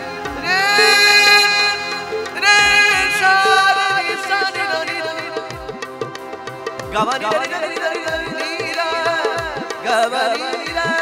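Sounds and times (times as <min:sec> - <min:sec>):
man singing: 0:00.0 - 0:06.1, 0:06.8 - 0:11.0
harmonium: 0:00.0 - 0:11.0.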